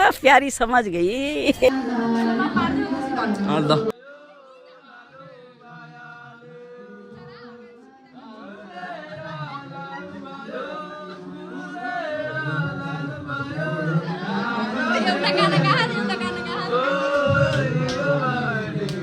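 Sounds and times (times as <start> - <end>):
person singing: 1.7 - 19.0
music: 2.6 - 19.0.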